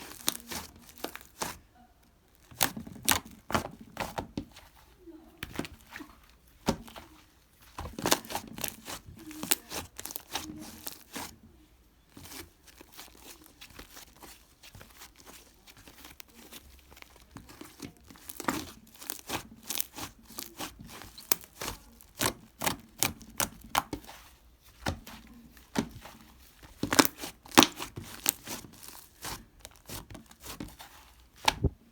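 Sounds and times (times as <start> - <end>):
slime crackling and popping: 0.0 - 1.6, 2.3 - 4.3, 7.7 - 11.3, 12.2 - 24.1, 24.7 - 31.7.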